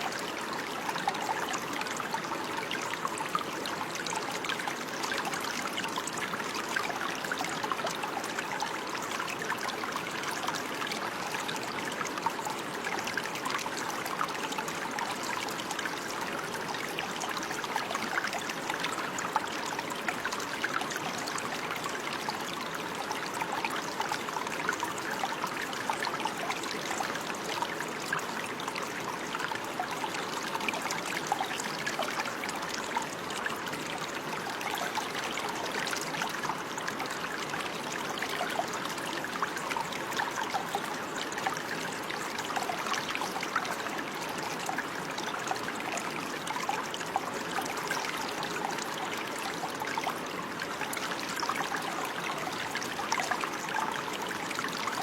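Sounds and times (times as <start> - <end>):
stream flowing and babbling: 0.0 - 55.0.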